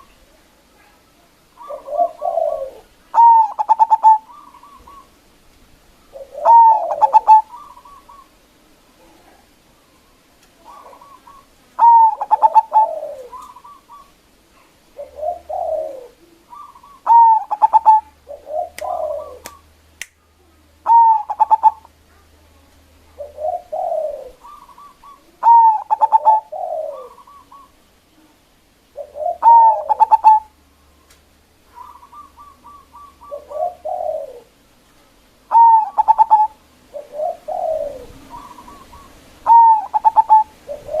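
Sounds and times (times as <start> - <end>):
zebra dove cooing: 1.5 - 5.2, 6.0 - 19.7, 20.8 - 22.3, 23.1 - 34.6, 35.5 - 41.0.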